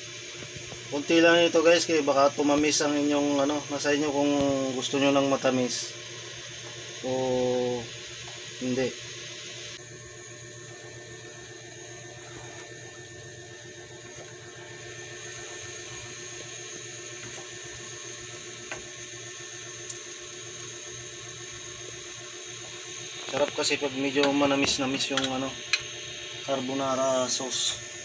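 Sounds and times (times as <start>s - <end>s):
sauce hissing in pot: 0.0s - 28.0s.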